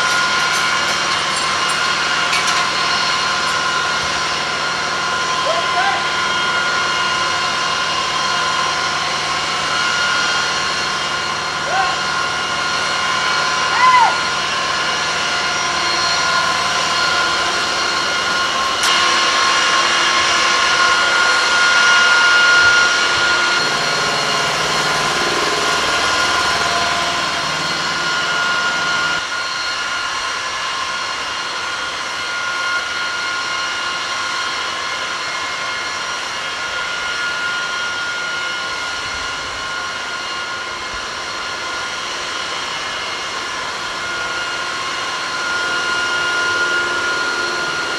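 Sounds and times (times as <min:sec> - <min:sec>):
jet turbines whining: 0:00.0 - 0:47.9.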